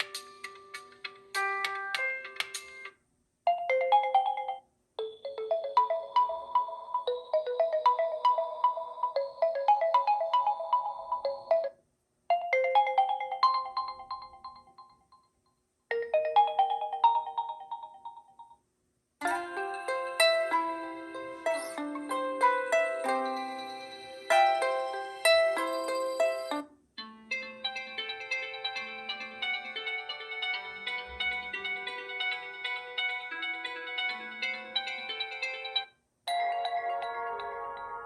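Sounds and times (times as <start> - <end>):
electronic ringtone melodies: 0.0 - 2.9, 3.5 - 15.3, 15.9 - 18.6, 19.2 - 38.0.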